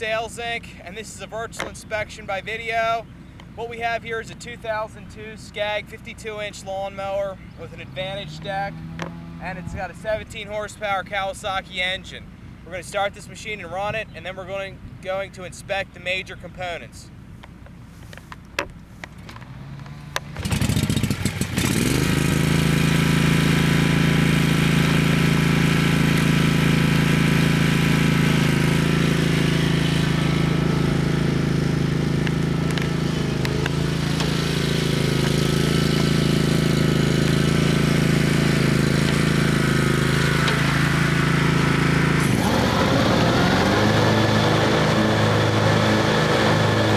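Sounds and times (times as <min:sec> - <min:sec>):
mower engine pull-started and running: 0:00.0 - 0:11.6, 0:17.6 - 0:46.9.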